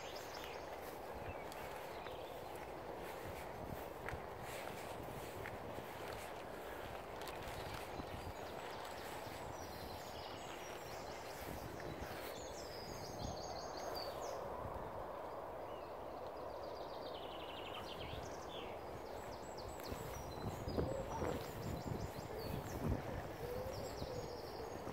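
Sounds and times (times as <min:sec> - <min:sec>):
birds singing and chirping: 0:00.0 - 0:14.4, 0:17.2 - 0:24.9
outdoor background rush: 0:00.0 - 0:24.9.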